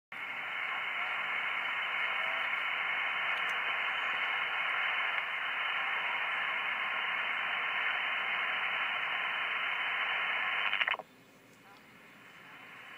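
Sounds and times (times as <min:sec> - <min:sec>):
radio static hiss: 0:00.1 - 0:12.9.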